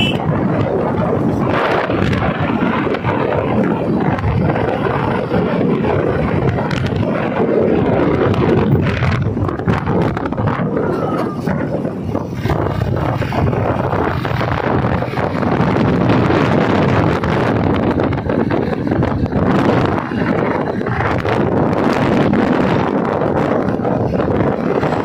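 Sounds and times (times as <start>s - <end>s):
motorcycle engine: 0.0s - 25.0s
wind buffeting on microphone: 0.0s - 25.0s.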